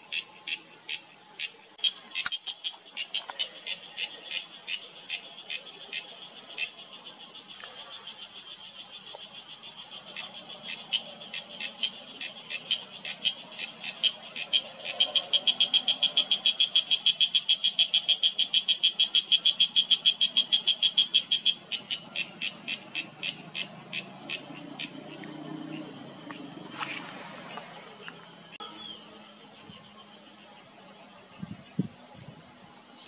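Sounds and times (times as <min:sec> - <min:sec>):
cicada buzzing pulses: 0:00.0 - 0:33.0.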